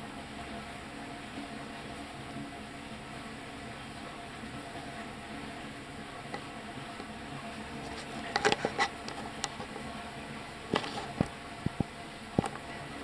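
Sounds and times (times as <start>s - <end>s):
fish slurping and splashing: 0.0s - 13.0s.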